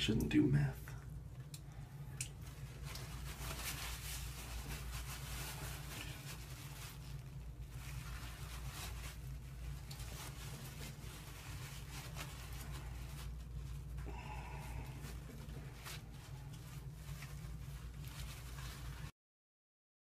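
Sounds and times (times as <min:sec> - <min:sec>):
low steady hum: 0:00.0 - 0:19.1
soft rustling and squishing: 0:00.0 - 0:19.1.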